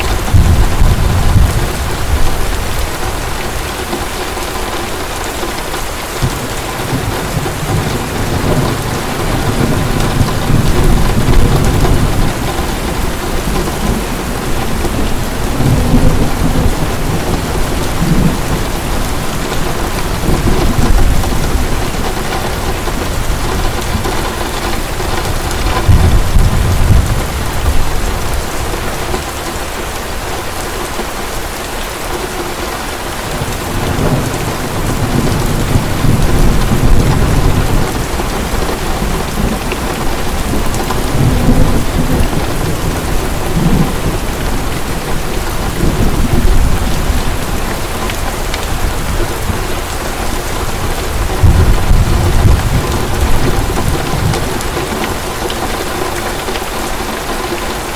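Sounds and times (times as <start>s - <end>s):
thunder rumbling: 0.0s - 30.6s, 33.1s - 57.2s
heavy rain pouring: 0.0s - 57.9s.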